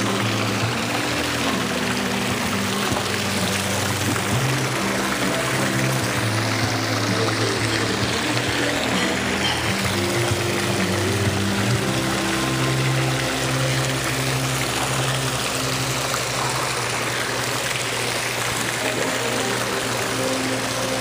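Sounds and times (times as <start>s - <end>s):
fountain splashing into basin: 0.0s - 21.0s.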